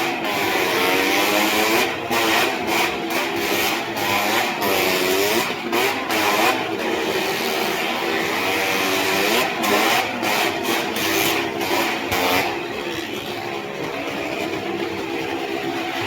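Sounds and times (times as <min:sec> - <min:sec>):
vehicle engines revving: 0:00.0 - 0:16.0.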